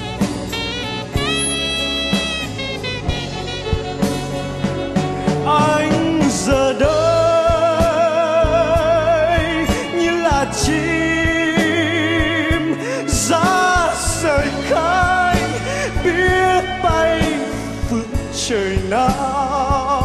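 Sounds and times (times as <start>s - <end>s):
wavering lead melody: 0.0s - 19.1s
band backing: 0.0s - 20.0s
drum kit hits: 0.0s - 20.0s.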